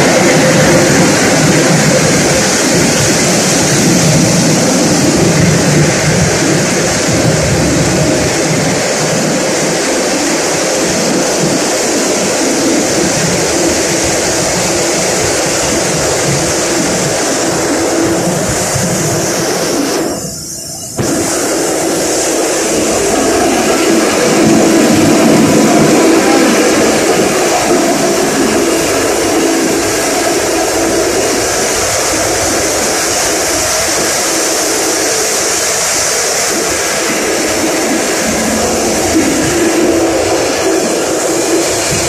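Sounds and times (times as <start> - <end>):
flour mill machinery din: 0.0 - 20.2, 20.8 - 42.0.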